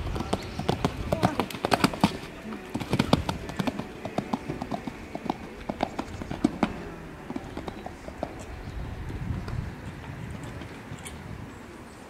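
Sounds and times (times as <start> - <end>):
horse hoofbeats on sand: 0.0 - 11.2.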